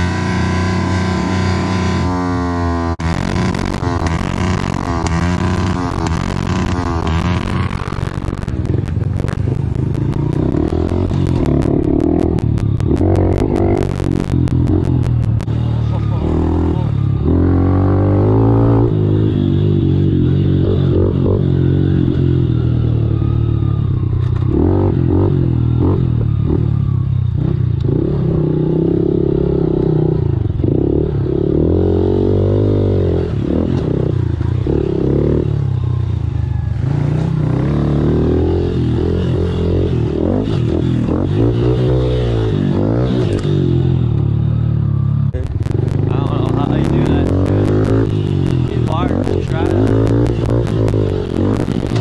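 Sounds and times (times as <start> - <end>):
pit bike engine revving: 0.0 - 52.0.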